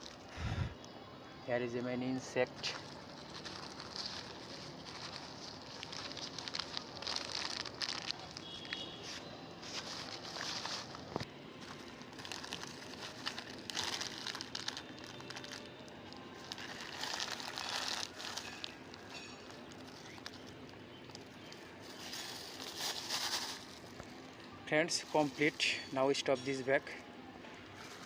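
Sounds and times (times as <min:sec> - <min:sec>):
plastic bag crinkling: 0:02.6 - 0:08.9, 0:09.6 - 0:27.0, 0:27.7 - 0:28.0.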